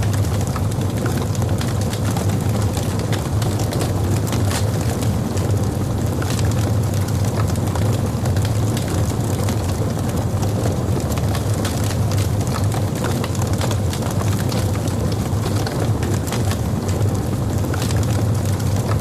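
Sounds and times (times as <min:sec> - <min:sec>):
logs burning in a fireplace: 0:00.0 - 0:19.0.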